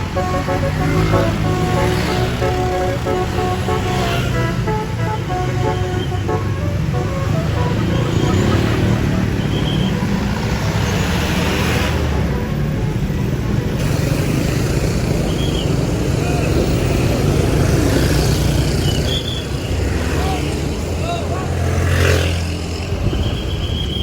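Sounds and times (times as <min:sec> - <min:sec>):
bus engine droning: 0:00.0 - 0:24.0.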